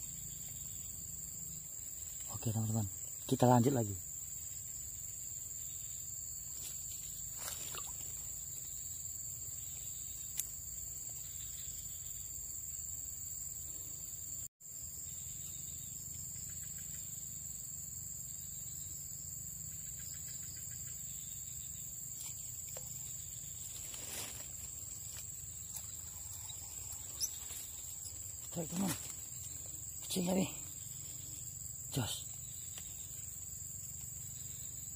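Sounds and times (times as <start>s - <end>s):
insects chirring: 0.0s - 34.9s.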